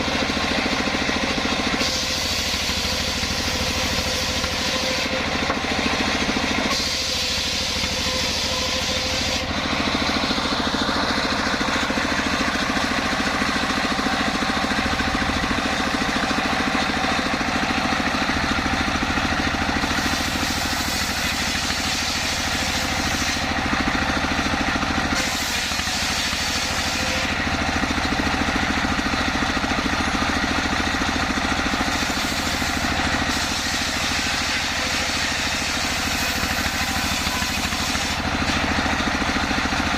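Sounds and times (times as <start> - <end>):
saw hissing through wood: 0.0 - 29.0, 30.6 - 39.8
sawmill engine running: 0.0 - 39.9.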